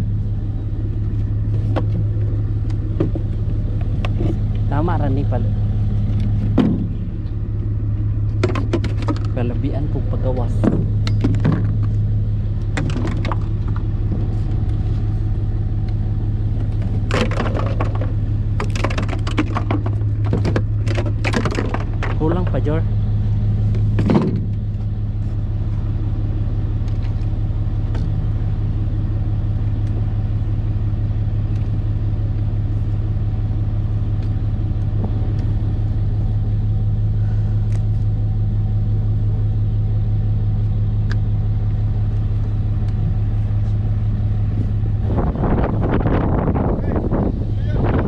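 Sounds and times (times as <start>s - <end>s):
motor engine droning: 0.0s - 48.0s.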